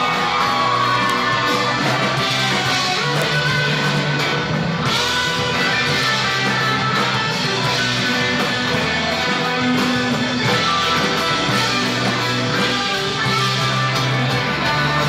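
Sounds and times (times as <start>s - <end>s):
live band playing: 0.0s - 15.0s
strummed electric guitar: 0.0s - 15.0s.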